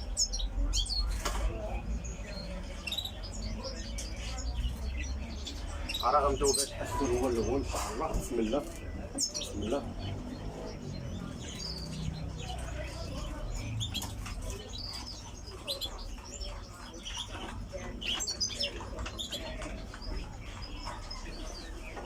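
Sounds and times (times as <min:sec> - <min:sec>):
finches chirping: 0:00.0 - 0:22.0.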